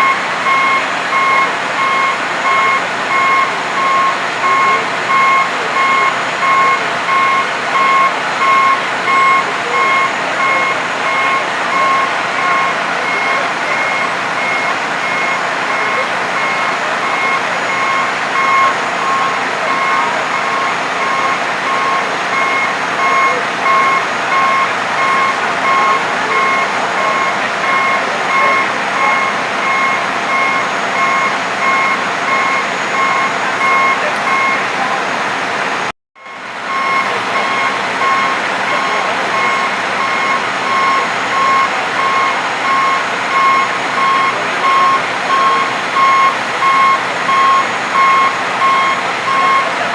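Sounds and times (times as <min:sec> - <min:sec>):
truck back-up alarm beeping: 0:00.0 - 0:35.1, 0:36.2 - 0:49.9
engines rumbling: 0:00.0 - 0:49.9.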